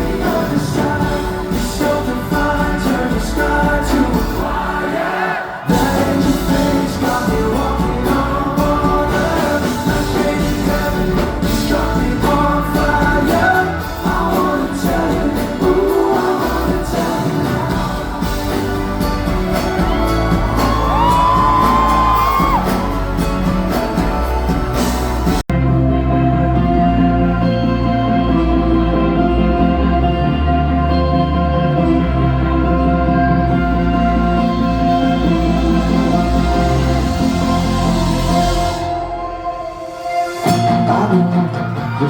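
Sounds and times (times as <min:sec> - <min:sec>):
live pop band with singer: 0:00.0 - 0:42.0.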